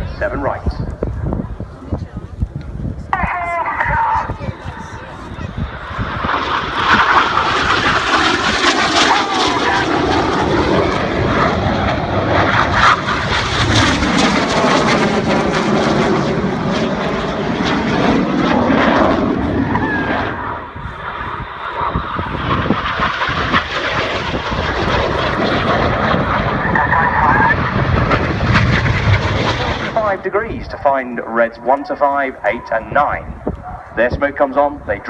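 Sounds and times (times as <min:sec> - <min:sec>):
jet roar passing low: 0:00.0 - 0:35.0.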